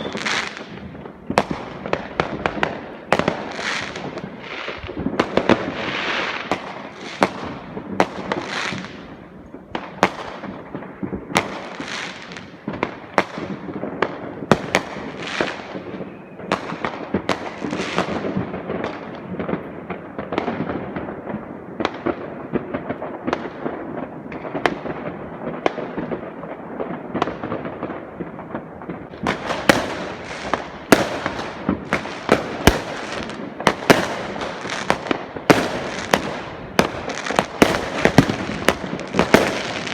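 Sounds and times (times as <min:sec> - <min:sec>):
fireworks banging: 0:00.0 - 0:39.9
fireworks crackling: 0:00.0 - 0:39.9.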